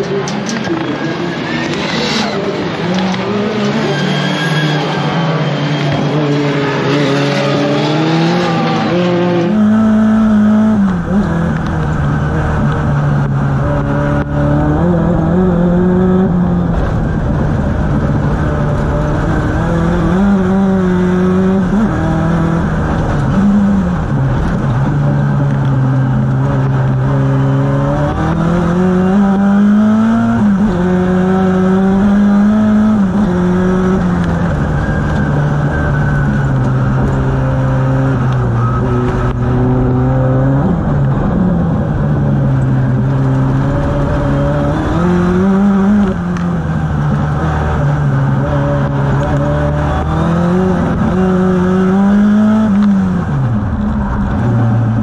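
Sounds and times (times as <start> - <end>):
racing cars on a circuit: 0.0 - 55.0
turbocharged car engine revving: 0.0 - 55.0.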